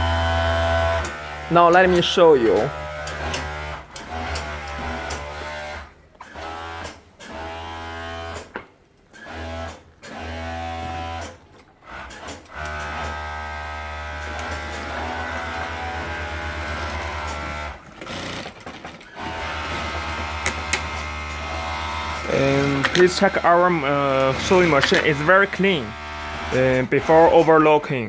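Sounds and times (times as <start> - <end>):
sewing machine motor whining: 0.0 - 8.5, 9.2 - 27.7.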